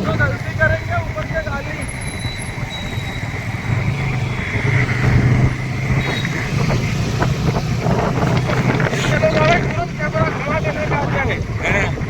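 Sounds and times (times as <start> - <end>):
motorbike engine humming: 0.0 - 12.0
wind and road noise: 0.0 - 12.0.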